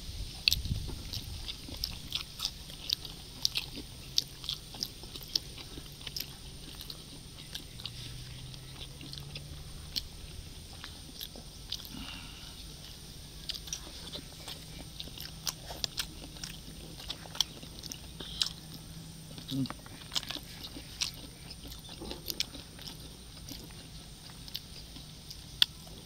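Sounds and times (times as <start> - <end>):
chewing and biting: 0.2 - 26.0
small crunches: 0.4 - 26.0.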